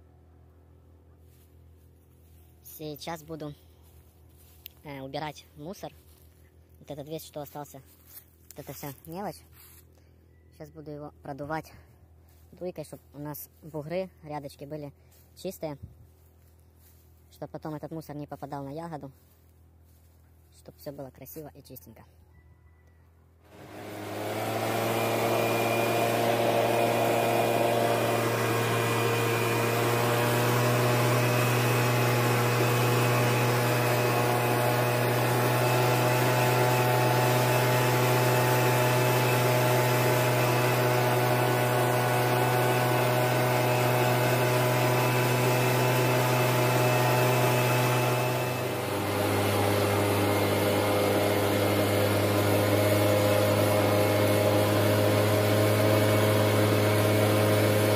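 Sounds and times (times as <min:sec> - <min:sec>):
leaf blower running: 0:00.0 - 0:21.4, 0:22.8 - 0:57.9.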